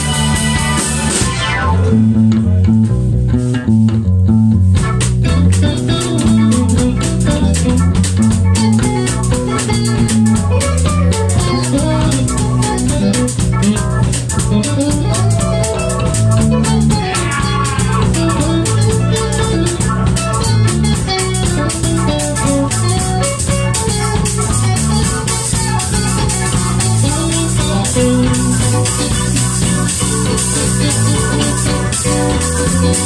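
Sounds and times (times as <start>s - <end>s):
fast dense drumming: 0.0s - 3.0s, 4.5s - 33.0s
rock band playing: 0.0s - 33.0s.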